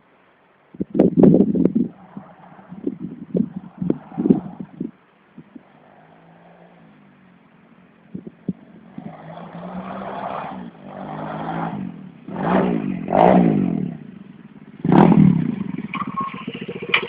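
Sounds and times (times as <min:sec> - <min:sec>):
pit bike engine revving: 0:01.3 - 0:17.0.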